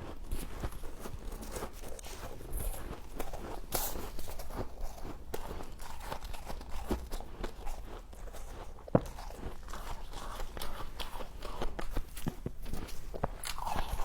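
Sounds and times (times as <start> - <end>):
frost crunching being chewed: 0.0 - 14.0.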